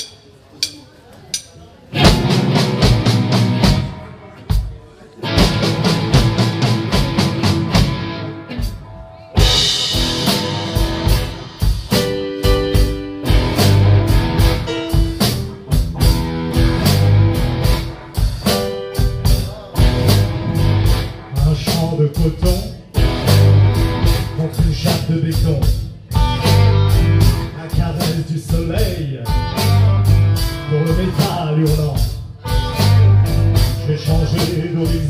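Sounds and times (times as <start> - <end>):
drum kit: 0.0 - 35.0
electric guitars: 2.0 - 25.4, 26.0 - 35.0
bass guitar: 2.0 - 35.0.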